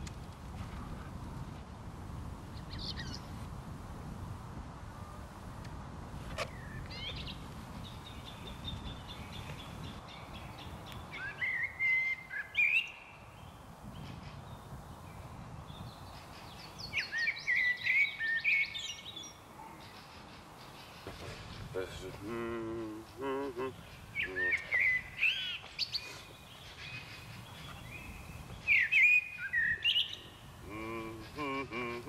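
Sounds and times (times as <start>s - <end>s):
songbird singing: 2.4s - 3.5s, 6.2s - 32.0s.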